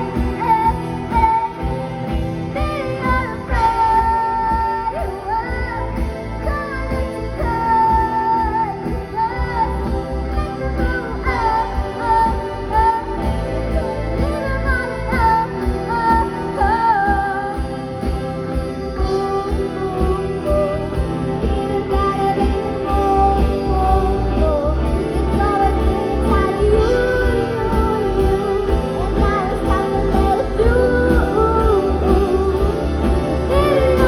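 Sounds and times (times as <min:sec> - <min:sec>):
girl singing: 0:00.0 - 0:34.0
live rock band playing: 0:00.0 - 0:34.0.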